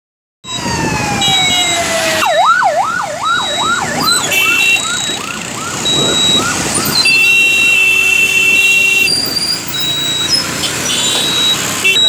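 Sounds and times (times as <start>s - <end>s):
road traffic: 0.4s - 12.0s
vehicle siren wailing and yelping: 0.4s - 12.0s.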